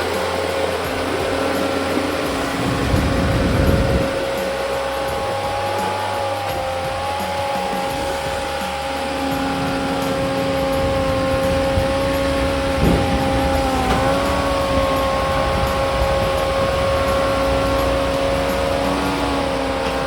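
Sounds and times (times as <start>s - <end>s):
firewood processor running: 0.0s - 20.0s.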